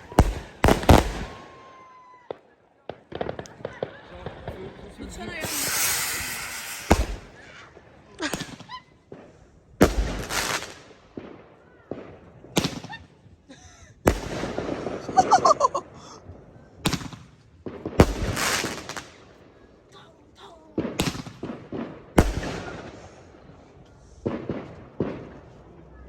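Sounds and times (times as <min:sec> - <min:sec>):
fireworks bangs with crackling hiss: 0:00.0 - 0:19.5, 0:20.6 - 0:26.0.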